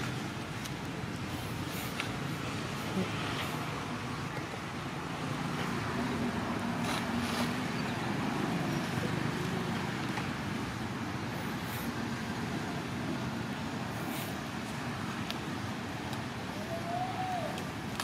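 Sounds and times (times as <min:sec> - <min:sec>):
distant road traffic hum: 0:00.0 - 0:18.0.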